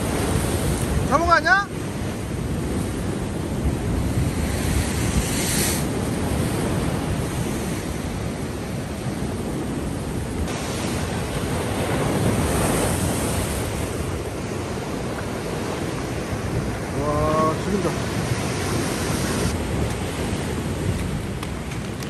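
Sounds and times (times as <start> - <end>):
surf breaking over rocks: 0.0 - 22.0
wind buffeting microphone: 0.0 - 22.0.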